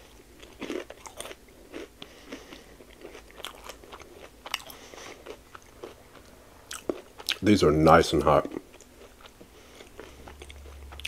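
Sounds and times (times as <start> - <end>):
crunchy chewing: 0.0 - 7.5, 8.1 - 11.0.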